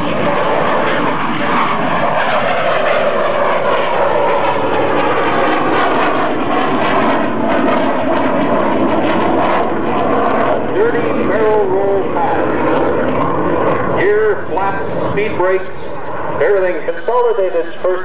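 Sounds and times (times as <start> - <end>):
jet roaring past: 0.0 - 18.0.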